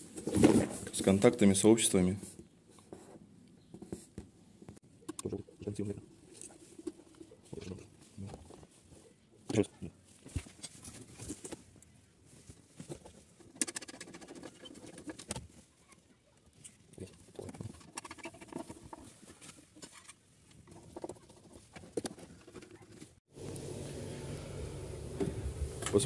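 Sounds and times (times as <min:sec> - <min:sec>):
cables rustling and scraping: 0:00.0 - 0:23.2.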